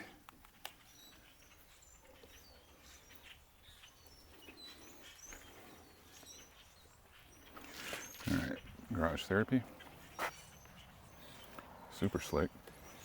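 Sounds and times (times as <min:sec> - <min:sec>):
bird chirps: 0:00.5 - 0:13.0.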